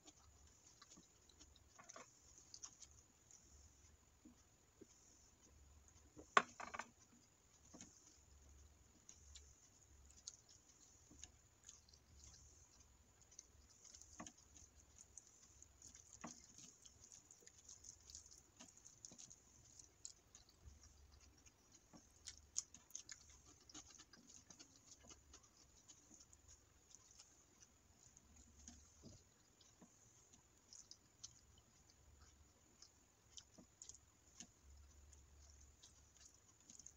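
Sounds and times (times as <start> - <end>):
fingers mixing rice wet squishes: 0.0 - 36.9.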